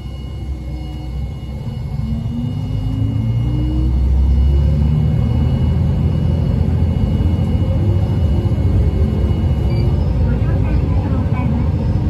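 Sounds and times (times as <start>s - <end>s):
diesel railcar engine rumble: 0.0s - 12.0s.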